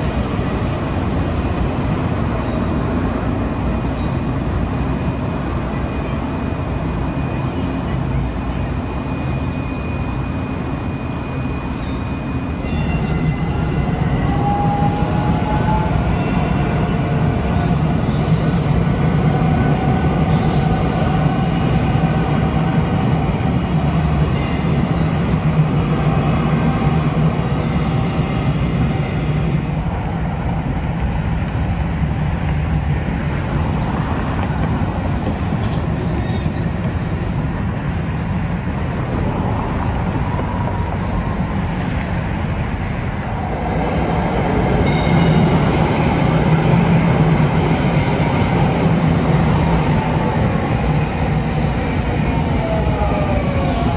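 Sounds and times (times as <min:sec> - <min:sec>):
light rail train rumble: 0:00.0 - 0:53.9.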